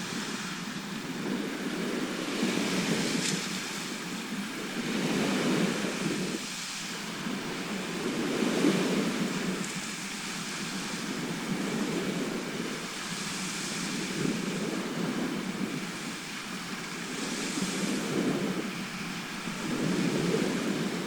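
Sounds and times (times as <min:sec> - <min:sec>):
waves washing ashore: 0:00.0 - 0:21.0.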